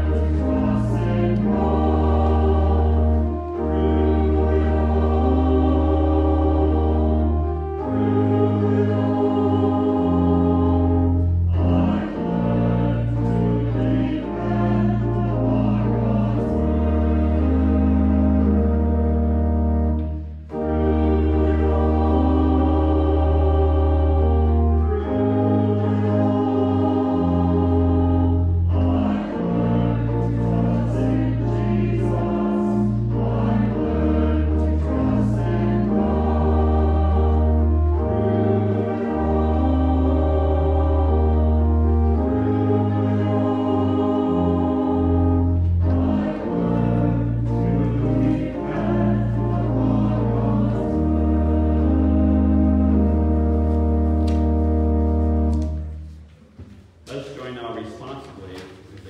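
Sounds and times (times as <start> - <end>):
voices singing a hymn: 0.0 - 56.0.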